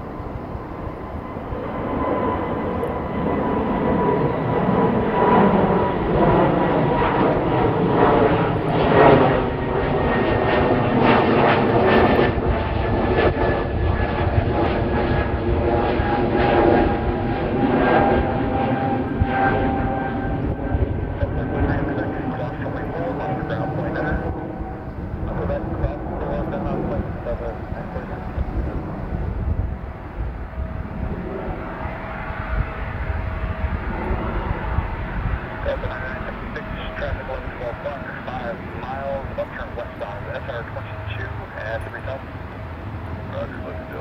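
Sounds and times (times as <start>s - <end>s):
jet engines passing by: 0.0s - 44.0s.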